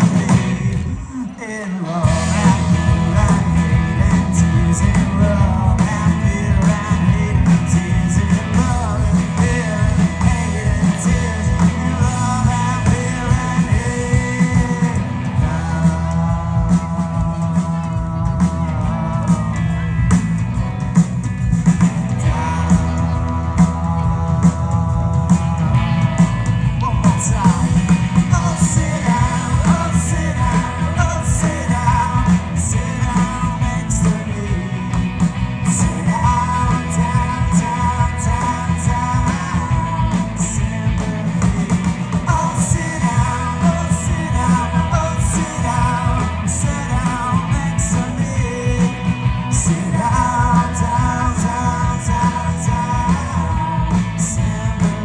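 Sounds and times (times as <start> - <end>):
person singing: 0.0 - 20.2, 21.8 - 55.0
live rock band playing: 0.0 - 55.0.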